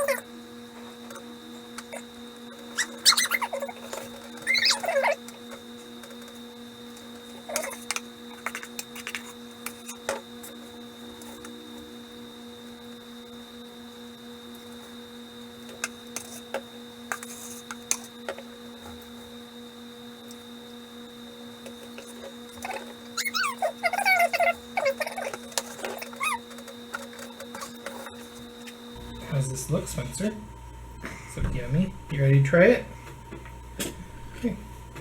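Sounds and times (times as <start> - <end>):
electrical hum with high whine: 0.0 - 35.0.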